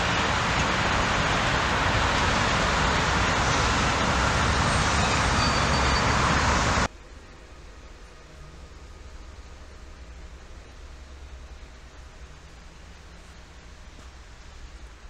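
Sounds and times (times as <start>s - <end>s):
electric locomotive running: 0.0s - 15.0s.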